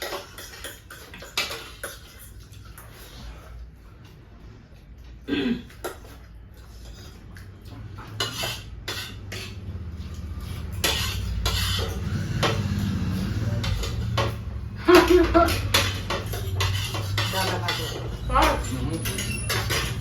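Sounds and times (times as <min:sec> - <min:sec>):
utensils clinking against bowls: 0:00.0 - 0:03.2, 0:05.7 - 0:20.0.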